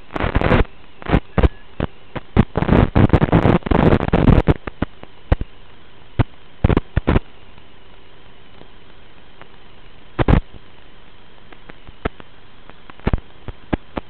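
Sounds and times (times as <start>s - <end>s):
radio static hiss and crackles: 0.0s - 14.0s.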